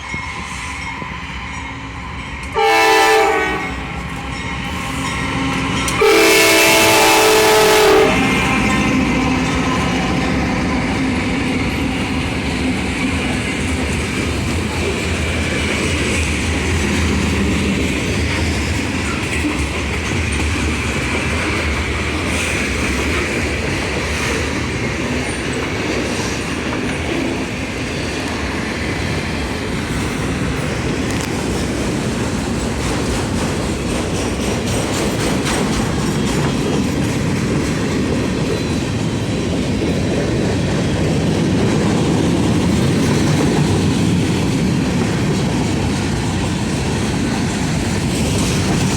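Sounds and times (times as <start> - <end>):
freight train wheels rumbling: 0.0 - 48.9
wheels clacking over rail joints: 3.9 - 48.9.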